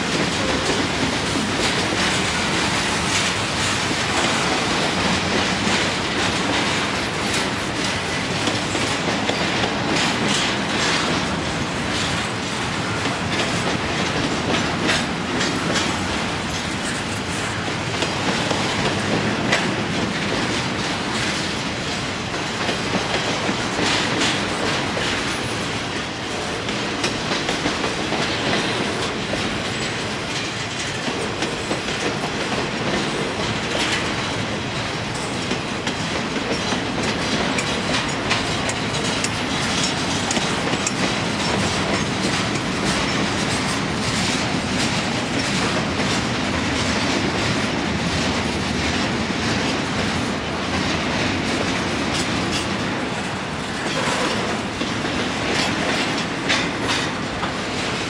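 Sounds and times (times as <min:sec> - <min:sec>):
train wheels rumbling on rail: 0:00.0 - 0:58.0
wheels clicking over rail joints: 0:00.0 - 0:58.0.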